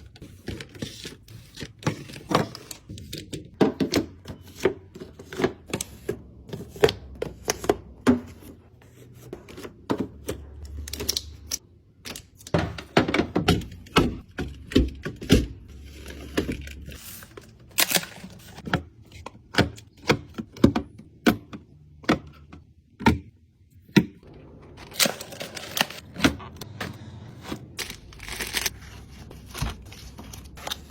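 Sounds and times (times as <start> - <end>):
hard items clattering and knocking: 0.0 - 11.5, 12.2 - 30.9.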